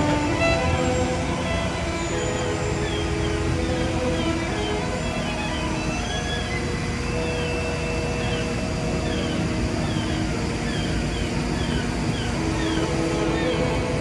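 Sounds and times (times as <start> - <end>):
heavy truck engine rumble: 0.0 - 14.0.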